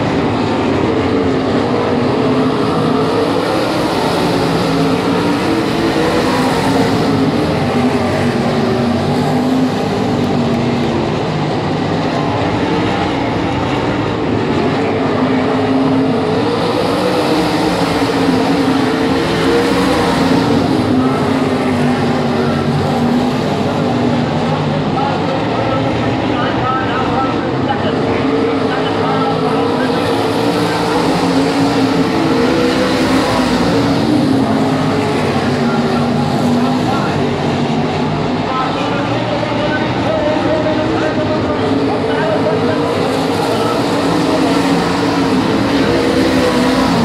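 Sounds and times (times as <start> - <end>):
racing car engines running: 0.0 - 47.0.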